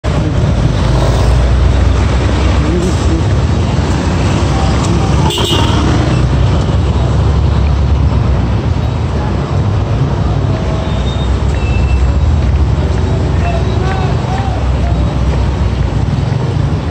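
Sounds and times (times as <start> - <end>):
car engines running: 0.0 - 16.9.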